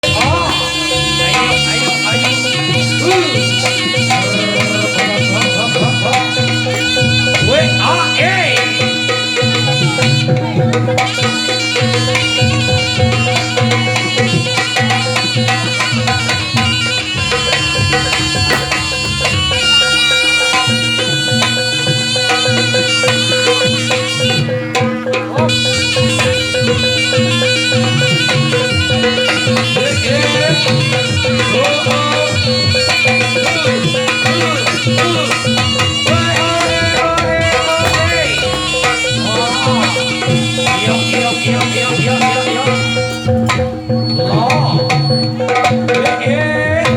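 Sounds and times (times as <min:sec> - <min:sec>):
drums and percussion: 0:00.0 - 0:46.9
reedy wind instrument melody: 0:00.0 - 0:46.9.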